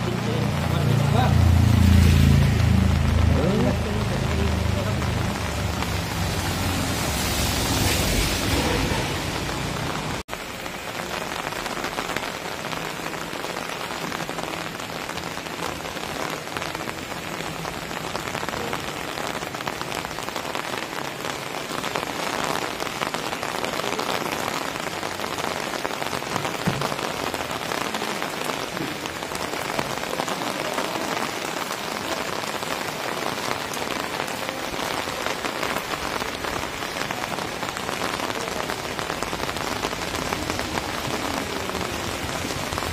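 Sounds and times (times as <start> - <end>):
light rain on wet pavement: 0.0 - 42.9.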